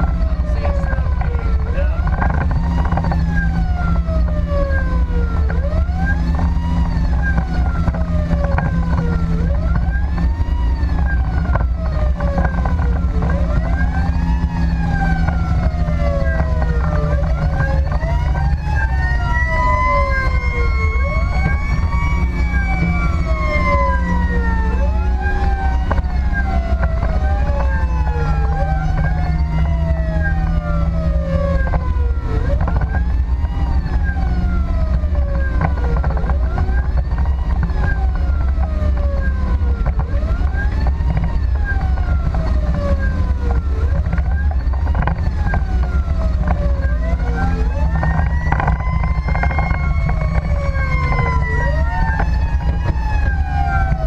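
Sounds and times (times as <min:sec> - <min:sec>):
emergency siren wailing: 0:00.0 - 0:54.0
engine and road rumble: 0:00.0 - 0:54.0.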